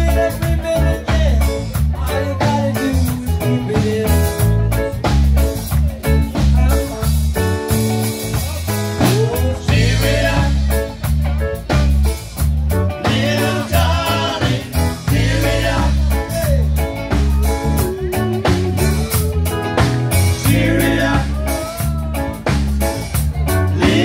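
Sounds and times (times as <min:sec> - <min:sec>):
man singing: 0:00.0 - 0:07.1, 0:09.0 - 0:12.0, 0:12.9 - 0:22.8, 0:23.4 - 0:24.0
drum kit: 0:00.0 - 0:24.0
electric bass: 0:00.0 - 0:24.0
electric guitar: 0:00.0 - 0:24.0.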